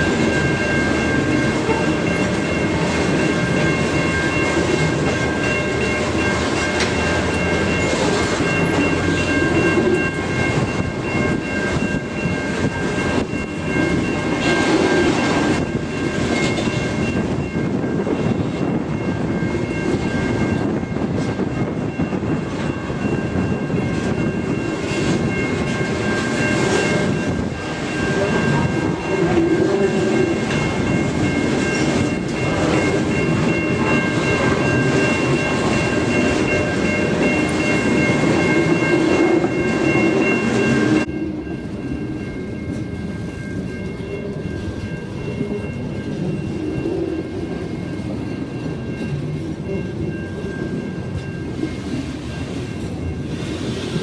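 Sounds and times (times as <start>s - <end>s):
high ringing tone: 0.0s - 54.0s
train wagons rumbling: 0.0s - 54.0s.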